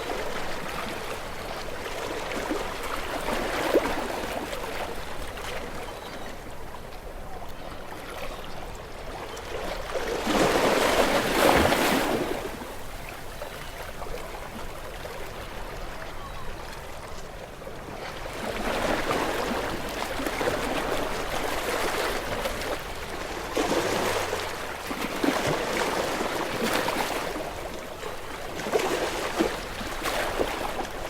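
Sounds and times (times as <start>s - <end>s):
small waves breaking on shore: 0.0s - 31.0s.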